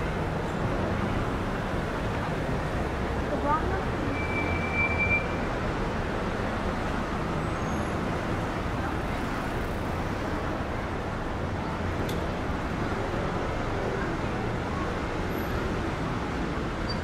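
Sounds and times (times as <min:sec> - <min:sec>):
city street traffic hum: 0:00.0 - 0:17.0.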